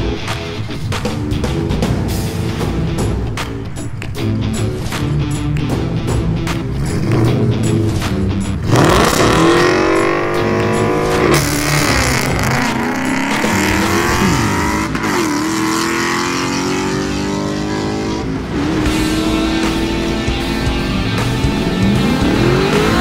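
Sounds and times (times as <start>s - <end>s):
drag car engines accelerating: 0.0s - 23.0s.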